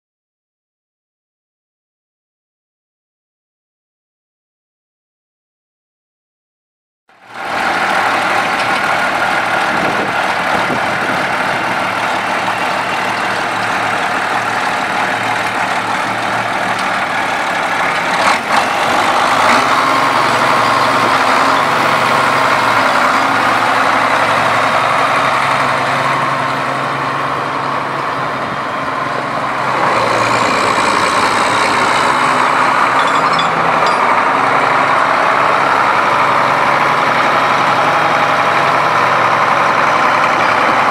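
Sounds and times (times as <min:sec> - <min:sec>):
diesel tractor engine running: 0:07.2 - 0:40.9.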